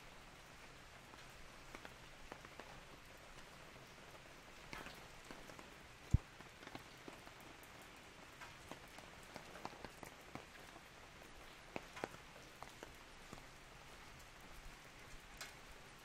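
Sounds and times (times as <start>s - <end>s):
rain on umbrella: 0.0s - 16.0s.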